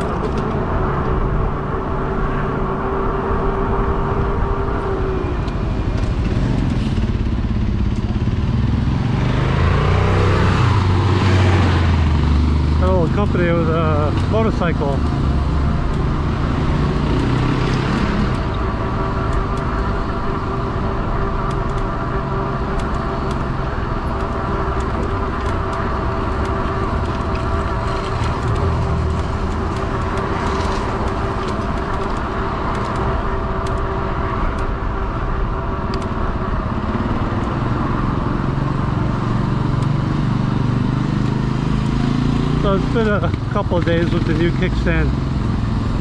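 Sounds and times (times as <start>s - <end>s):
e-bike drive and tyre hum: 0.0s - 46.0s.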